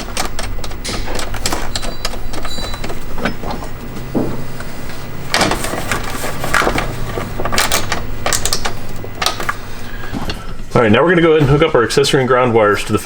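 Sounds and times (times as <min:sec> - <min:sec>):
hand tools clicking and scraping: 0:00.0 - 0:11.6
steady low hum: 0:00.0 - 0:13.0.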